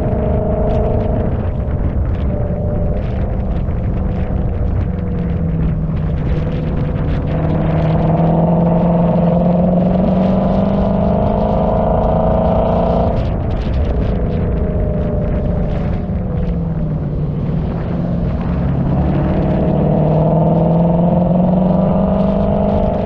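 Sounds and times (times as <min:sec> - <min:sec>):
car engine running under load: 0:00.0 - 0:23.0.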